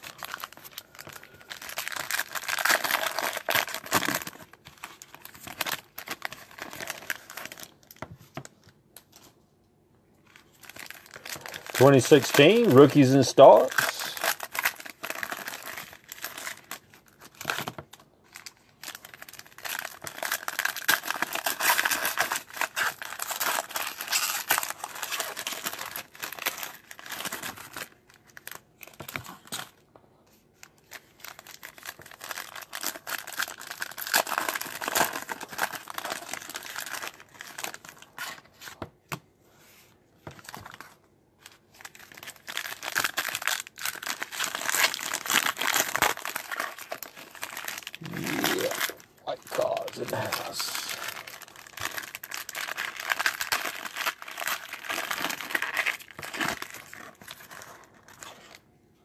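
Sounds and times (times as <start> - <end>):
foil wrappers tearing and crinkling: 0.0 - 8.5, 10.2 - 29.8, 30.6 - 38.8, 40.3 - 58.6.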